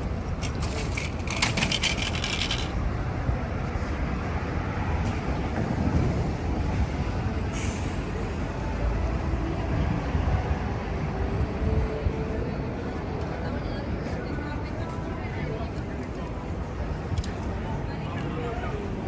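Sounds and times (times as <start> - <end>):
rumble of vehicles: 0.0 - 19.0.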